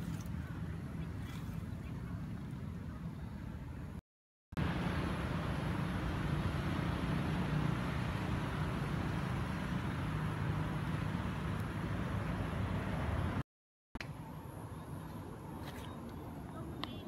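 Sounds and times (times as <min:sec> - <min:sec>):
low rumbling background noise: 0:00.0 - 0:04.0, 0:04.6 - 0:13.4, 0:14.0 - 0:17.0.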